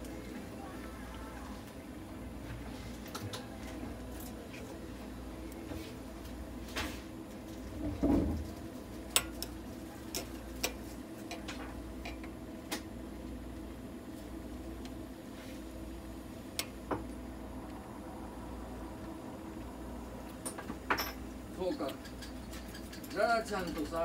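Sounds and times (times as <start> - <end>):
equipment humming: 0.0 - 24.0.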